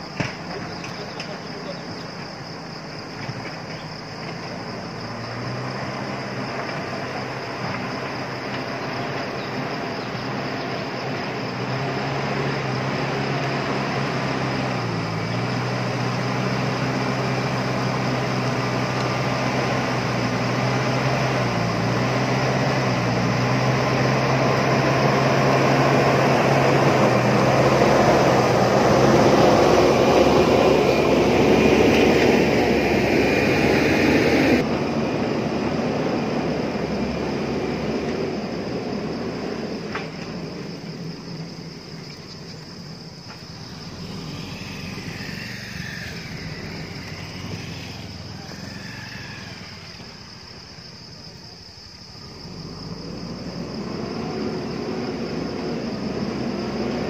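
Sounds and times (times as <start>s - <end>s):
diesel engine approaching: 0.0s - 57.0s.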